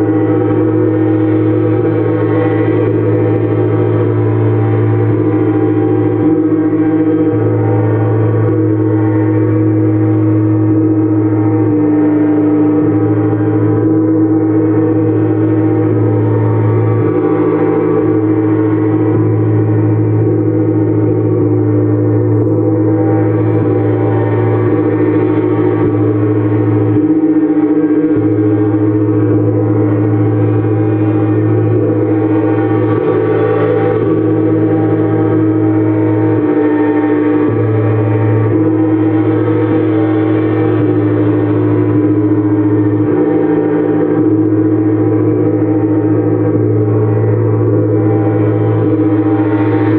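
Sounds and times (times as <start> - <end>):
gongs ringing: 0.0 - 49.9.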